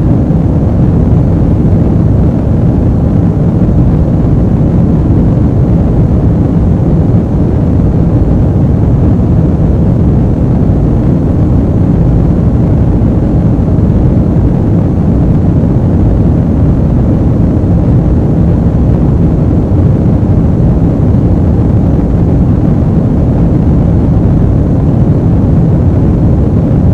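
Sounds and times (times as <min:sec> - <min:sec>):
aircraft in flight rumble: 0:00.0 - 0:26.9.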